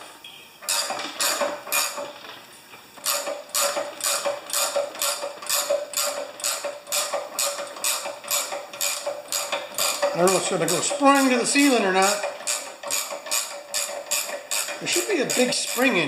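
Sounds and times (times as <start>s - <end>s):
ratchet wrench clicking: 0.7s - 2.0s, 3.0s - 16.0s.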